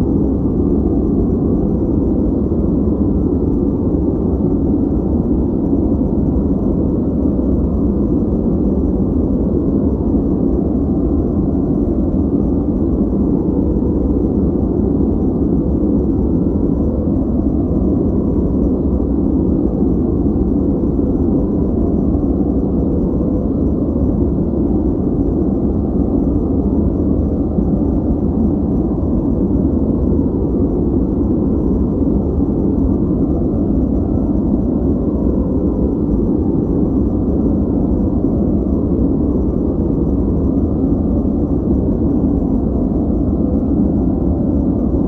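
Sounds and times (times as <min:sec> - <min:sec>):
deep filtered white noise: 0:00.0 - 0:45.0.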